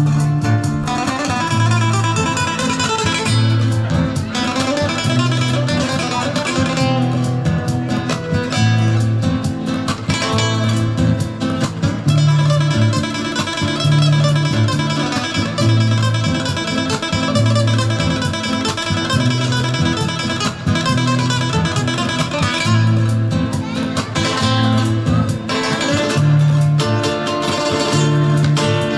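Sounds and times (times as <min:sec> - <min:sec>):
repeating bass line: 0:00.0 - 0:23.6
flamenco acoustic guitar strumming: 0:00.0 - 0:28.9.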